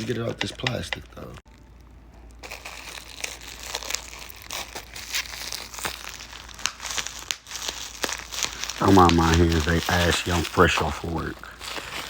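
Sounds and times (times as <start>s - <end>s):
plastic wrapping crinkling and tearing: 1.5s - 12.0s.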